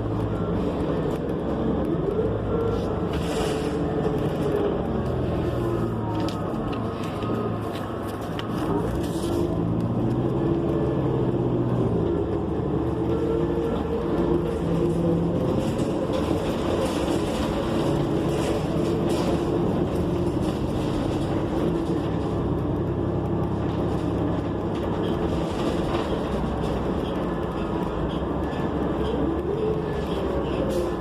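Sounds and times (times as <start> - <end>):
bus engine running: 0.0 - 31.0
road noise: 0.0 - 31.0.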